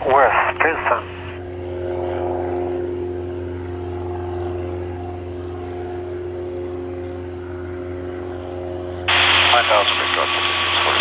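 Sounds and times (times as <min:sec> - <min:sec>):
light plane engine droning: 0:00.0 - 0:11.0.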